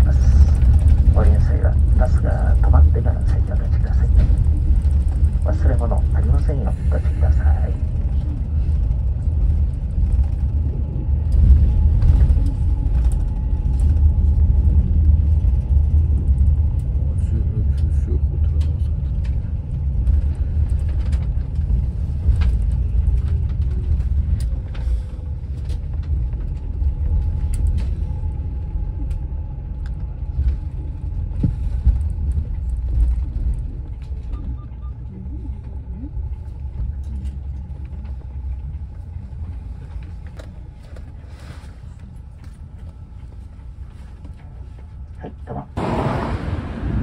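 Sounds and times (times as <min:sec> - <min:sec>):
vehicle rumble from inside cabin: 0:00.0 - 0:47.0.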